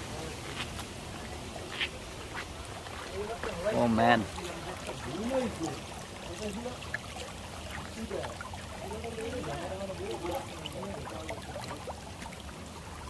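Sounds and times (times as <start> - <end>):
stream water flowing: 0.0 - 13.0
distant people talking: 1.0 - 12.1.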